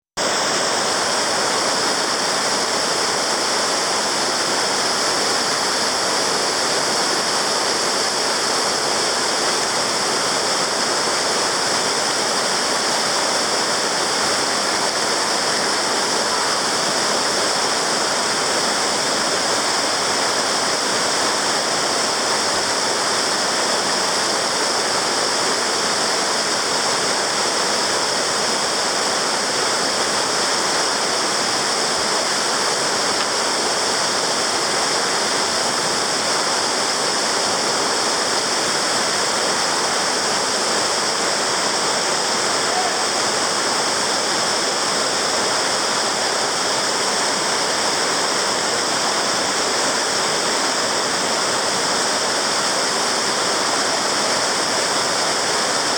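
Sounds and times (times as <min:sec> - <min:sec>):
water rushing over rocks: 0:00.2 - 0:55.9.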